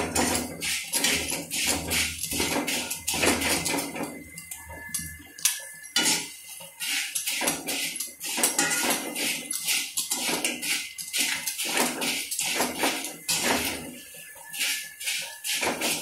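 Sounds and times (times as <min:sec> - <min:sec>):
metal utensil scraping in a pan: 0:00.0 - 0:16.0.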